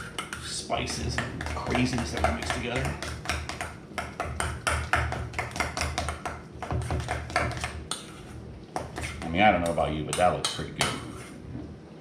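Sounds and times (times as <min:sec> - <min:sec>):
utensil scraping mixing bowl: 0:00.0 - 0:11.5.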